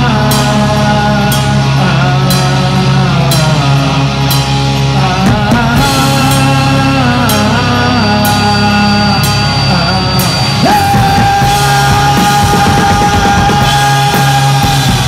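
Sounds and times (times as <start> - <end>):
drum kit: 0.0 - 15.0
electric guitar chords: 0.0 - 15.0.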